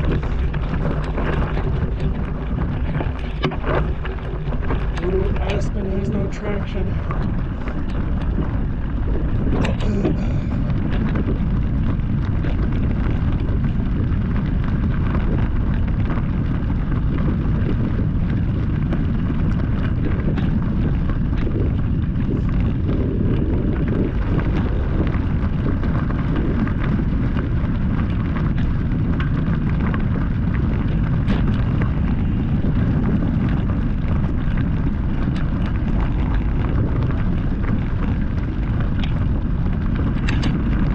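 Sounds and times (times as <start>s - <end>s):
rumble of riding over dirt: 0.0s - 40.9s
sharp clicks and rattles: 0.0s - 40.9s
wind buffeting microphone: 0.0s - 40.9s.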